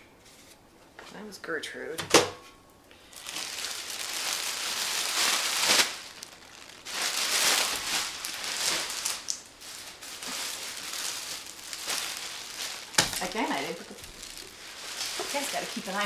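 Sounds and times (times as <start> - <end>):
crinkly wrapping rustling: 2.9 - 16.0.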